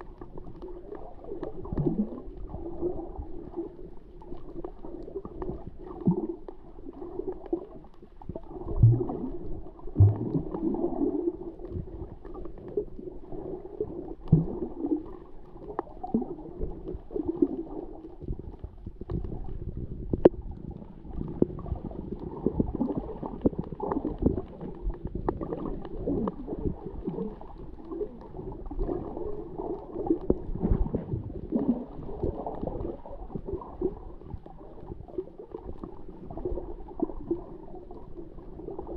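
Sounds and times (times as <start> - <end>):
water swishing and gurgling underwater: 0.0 - 38.9.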